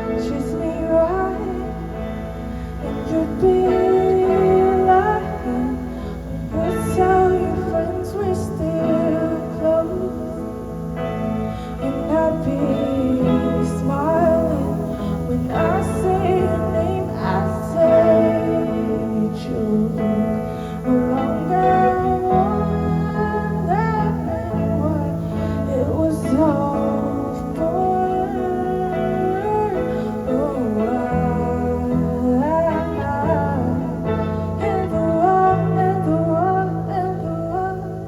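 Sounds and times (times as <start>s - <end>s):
gliding lead guitar melody: 0.0s - 38.0s.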